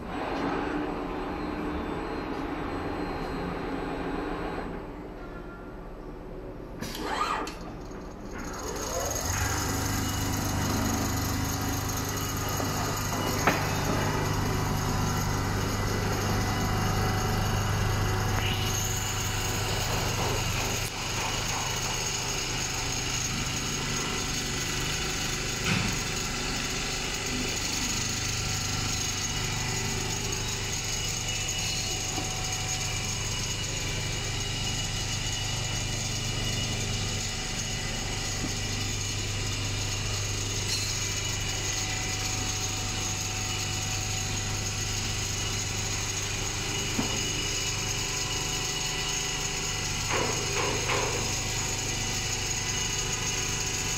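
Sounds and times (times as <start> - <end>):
quilting machine humming: 6.9 - 53.9.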